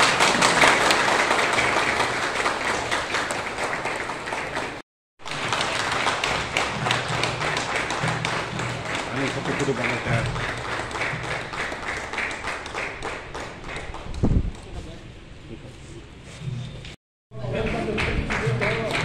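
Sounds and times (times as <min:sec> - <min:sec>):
group of people applauding: 0:00.0 - 0:14.8, 0:17.4 - 0:19.0.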